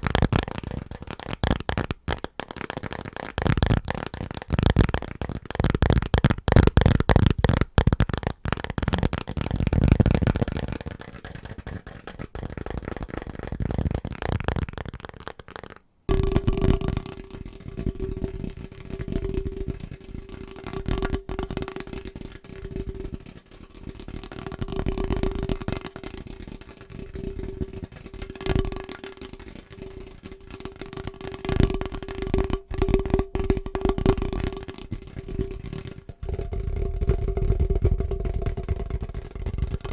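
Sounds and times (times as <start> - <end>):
rapid tapping on objects: 0.0 - 39.9.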